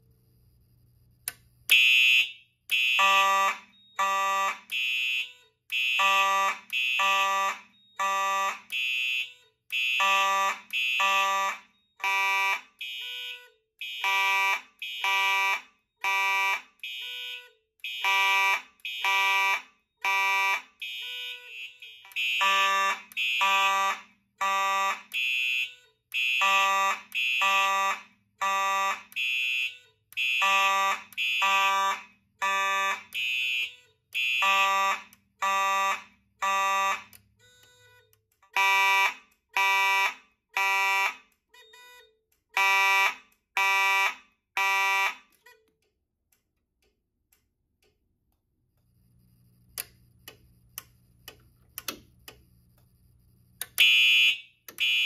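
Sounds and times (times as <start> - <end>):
fire alarm horns blasting: 1.7 - 45.6, 53.8 - 55.0.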